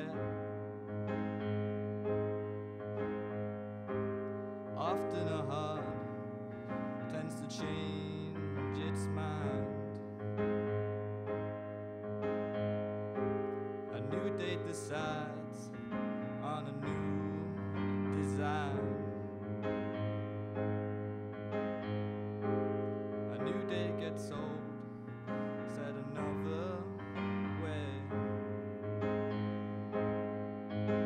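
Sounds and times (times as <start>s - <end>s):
electric keyboard chords: 0.0s - 31.0s.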